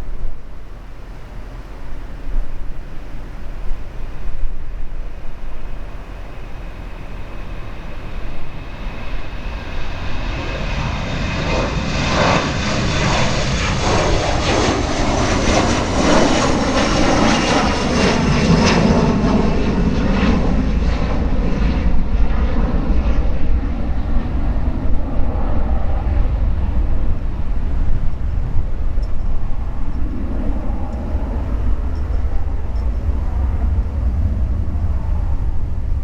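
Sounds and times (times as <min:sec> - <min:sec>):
jet engines passing: 0:00.0 - 0:36.0
wind on microphone: 0:00.0 - 0:36.0.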